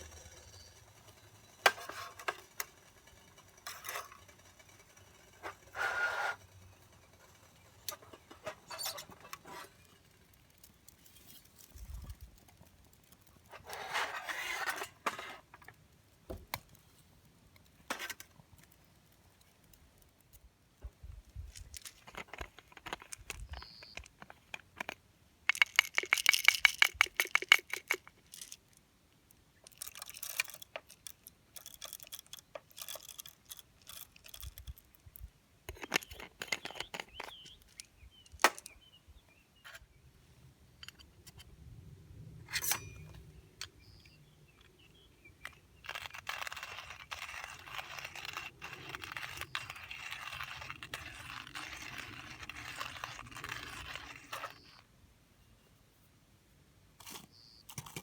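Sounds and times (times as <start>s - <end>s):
objects clicking and scraping: 0.0s - 28.9s, 29.6s - 38.9s, 39.6s - 40.0s, 40.8s - 41.6s, 42.4s - 55.5s, 57.0s - 58.0s.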